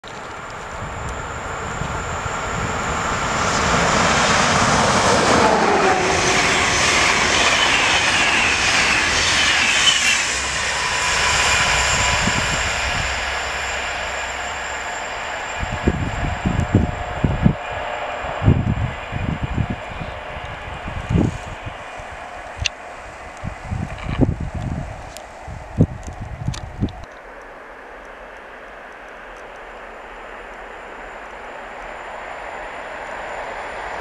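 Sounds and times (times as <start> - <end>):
passenger train passing: 0.0 - 34.0
train whine dropping in pitch: 0.1 - 25.9, 29.7 - 34.0.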